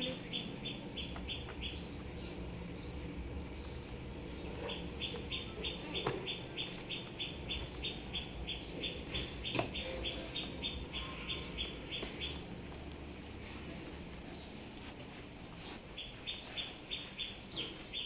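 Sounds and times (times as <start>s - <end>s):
bird chirping rapidly: 0.0s - 12.6s, 15.4s - 18.0s.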